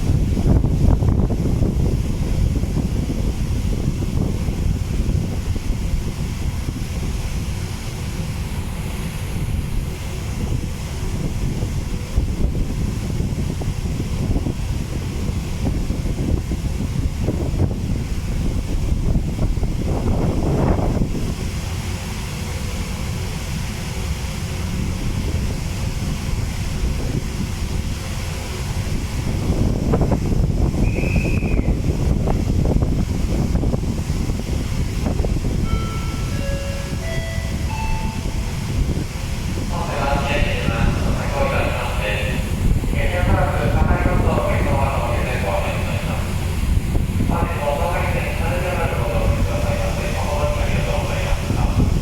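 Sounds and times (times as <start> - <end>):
strong wind buffeting microphone: 0.0 - 52.0.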